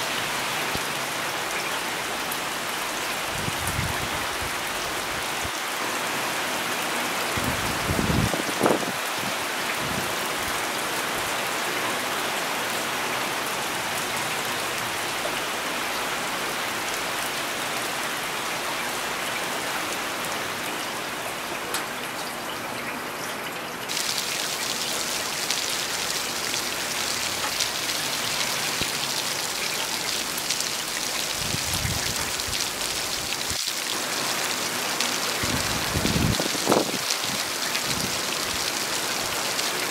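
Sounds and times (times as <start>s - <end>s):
steady rain hissing: 0.0s - 22.8s, 23.8s - 39.9s.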